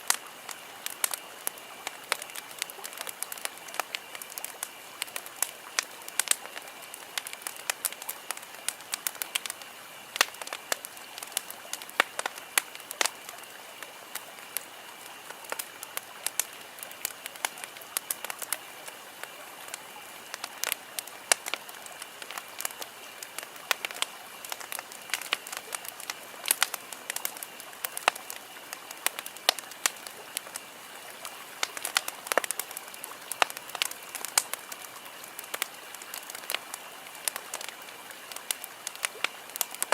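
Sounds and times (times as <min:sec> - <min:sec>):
campfire crackling and popping: 0:00.0 - 0:39.9
fire hiss: 0:00.0 - 0:39.9.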